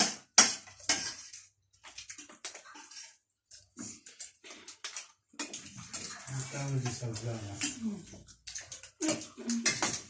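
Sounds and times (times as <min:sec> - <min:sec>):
wet chewing: 0:00.1 - 0:10.0.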